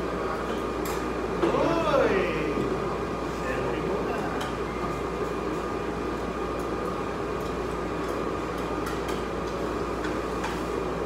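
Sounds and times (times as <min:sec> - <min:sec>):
air conditioning rushing: 0:00.0 - 0:11.0.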